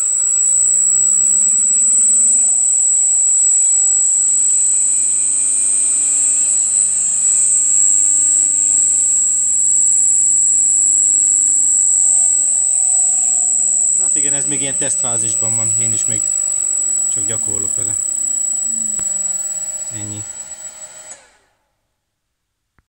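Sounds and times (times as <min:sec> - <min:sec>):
high switching whine from drive: 0:00.0 - 0:21.5
electric motor whine: 0:00.0 - 0:21.6.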